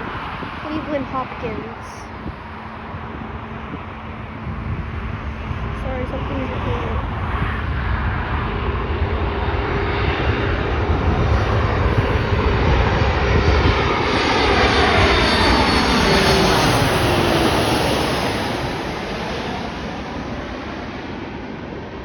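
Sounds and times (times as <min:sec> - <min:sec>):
jet airliner engines roaring: 0:00.0 - 0:22.0
jet engine whine falling: 0:00.0 - 0:22.0.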